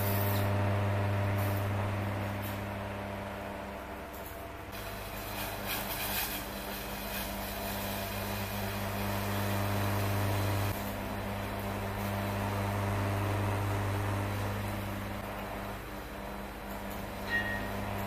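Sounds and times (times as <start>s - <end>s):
kitchen motor hum: 0.0s - 18.0s.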